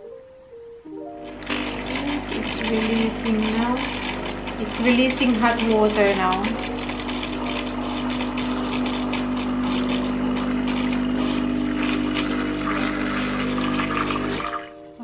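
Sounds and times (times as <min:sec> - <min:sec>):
espresso machine pump humming: 0:01.2 - 0:14.7.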